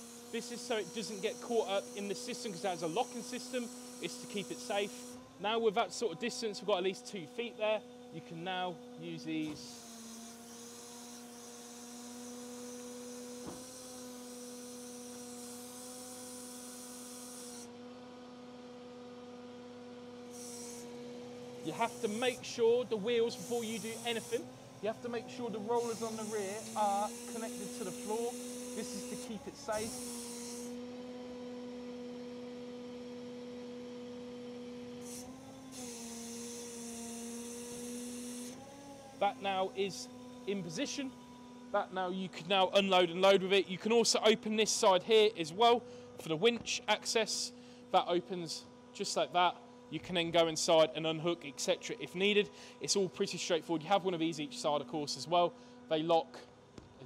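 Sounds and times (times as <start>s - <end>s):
hydraulic pump humming: 0.0s - 49.8s.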